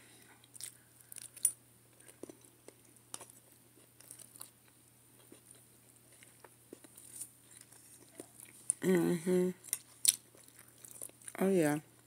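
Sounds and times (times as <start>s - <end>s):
faint low hum: 0.0s - 12.0s
soft chewing: 0.1s - 8.8s, 9.5s - 12.0s.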